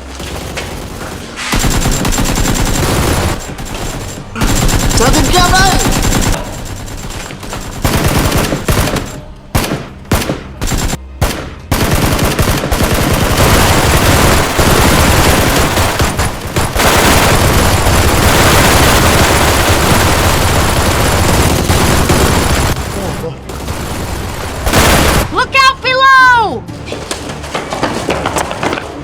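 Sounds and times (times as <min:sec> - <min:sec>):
machine-gun fire: 0:00.2 - 0:25.5.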